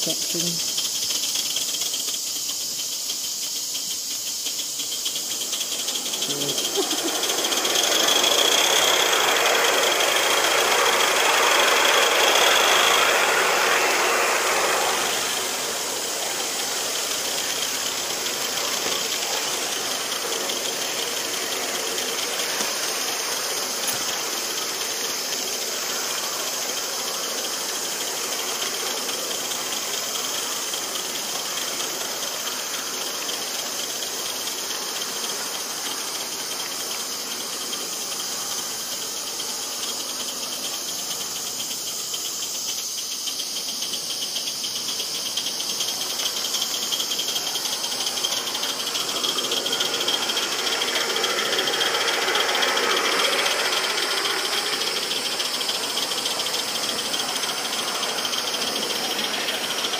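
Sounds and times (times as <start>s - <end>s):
steam locomotive chuffing: 0.0s - 59.9s
wheels rattling on rails: 0.0s - 59.9s.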